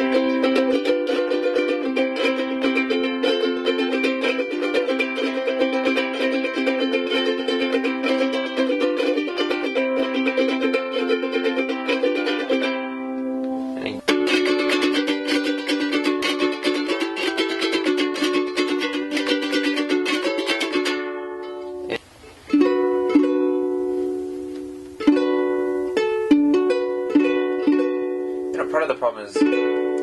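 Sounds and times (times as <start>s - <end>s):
ukulele strumming chords: 0.0s - 30.0s.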